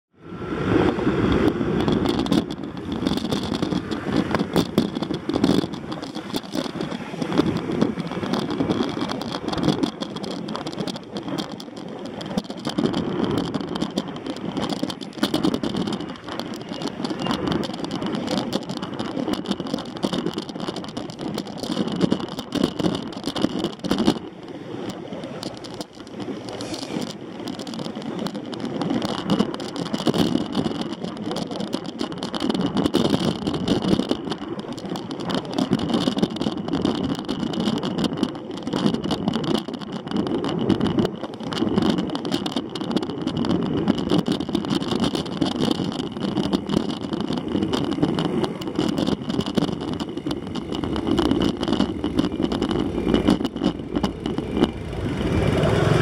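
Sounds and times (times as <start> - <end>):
wind noise on microphone: 0.1 - 56.0
small knocks and rattles: 1.4 - 55.0.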